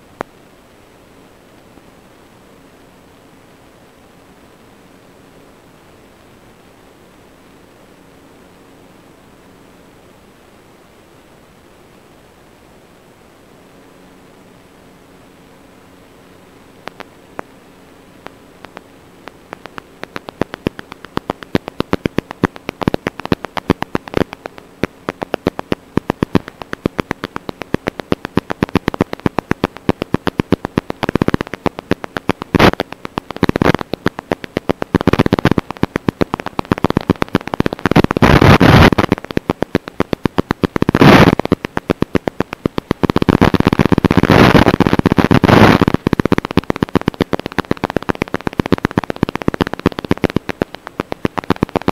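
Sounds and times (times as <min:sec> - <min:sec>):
crackling radio static clicks: 0:00.0 - 0:09.3, 0:13.8 - 0:51.9
bursts of static hiss: 0:00.0 - 0:51.9.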